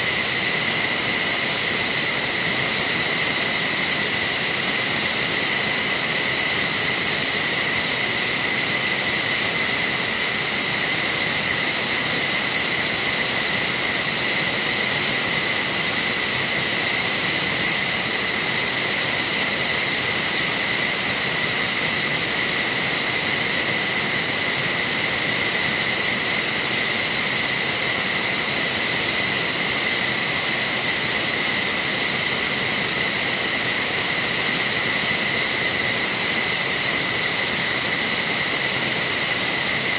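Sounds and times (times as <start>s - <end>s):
jet turbine whine: 0.0s - 39.9s
loud rushing hiss: 0.0s - 39.9s.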